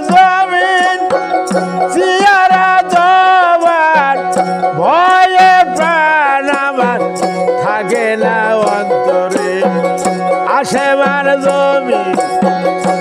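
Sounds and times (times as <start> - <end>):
hand frame drum: 0.0 - 13.0
man singing long notes: 0.0 - 13.0
plucked lute: 0.0 - 13.0.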